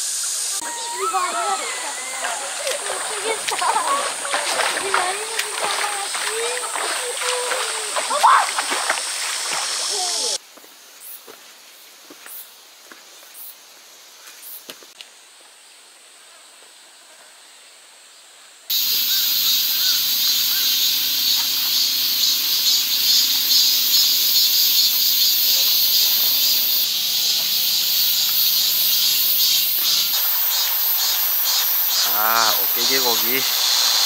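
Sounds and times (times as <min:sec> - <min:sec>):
cicadas chorus: 0:00.0 - 0:34.0.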